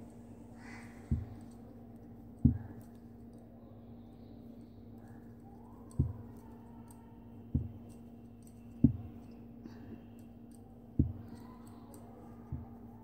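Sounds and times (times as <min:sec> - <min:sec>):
steady low hum: 0:00.0 - 0:13.0
metal knitting needles clicking: 0:00.7 - 0:03.5, 0:05.0 - 0:13.0.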